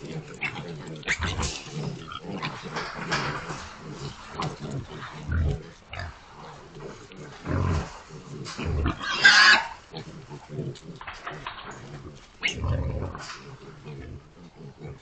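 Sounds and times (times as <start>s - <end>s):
hogs grunting: 0.0s - 15.0s.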